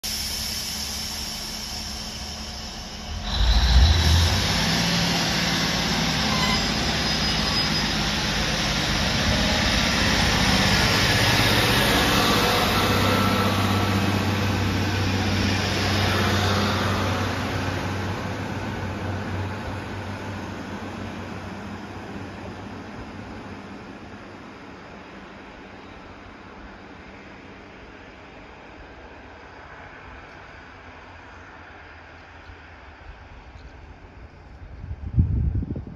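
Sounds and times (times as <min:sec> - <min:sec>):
diesel train engines: 0:00.0 - 0:35.9.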